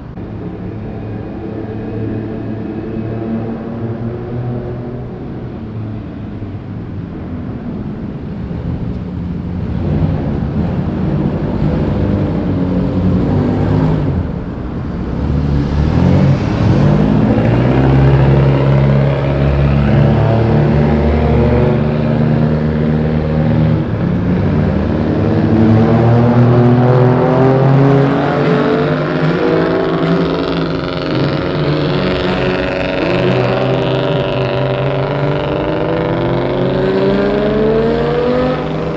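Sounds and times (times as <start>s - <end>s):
car engine through loud exhaust: 0.0s - 38.9s.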